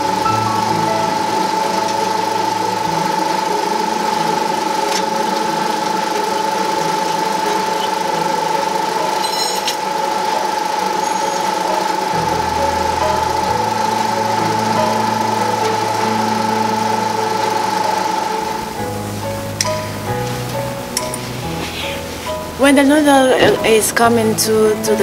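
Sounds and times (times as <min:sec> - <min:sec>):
noodle machine motor humming: 0:00.0 - 0:25.0.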